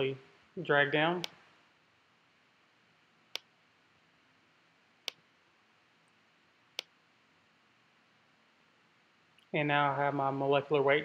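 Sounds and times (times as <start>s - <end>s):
faint room hiss: 0.0s - 11.0s.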